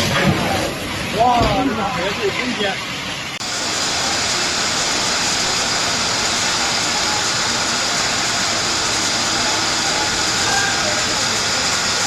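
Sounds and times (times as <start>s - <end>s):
rushing floodwater roar: 0.0s - 12.0s.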